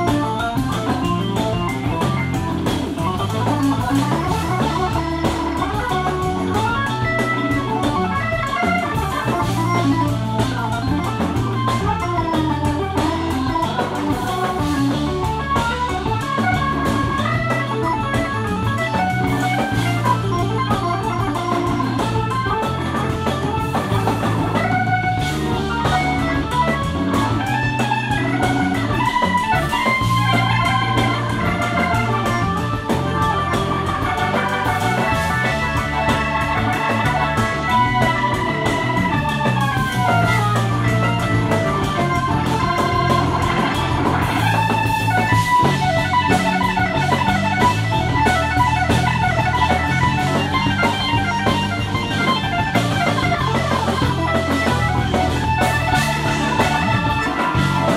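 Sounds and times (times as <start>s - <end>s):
jazz-fusion band playing: 0.0s - 57.9s
organ solo: 0.0s - 57.9s.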